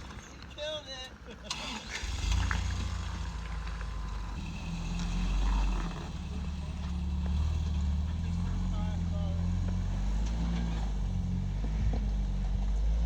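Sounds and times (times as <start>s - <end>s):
road noise: 0.0s - 13.0s
truck engine drone: 1.4s - 13.0s.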